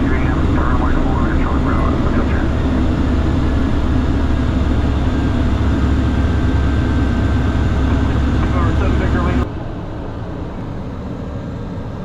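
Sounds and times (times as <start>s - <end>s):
faint steady whine: 0.0s - 11.7s
propeller aircraft engine drone: 0.0s - 12.0s.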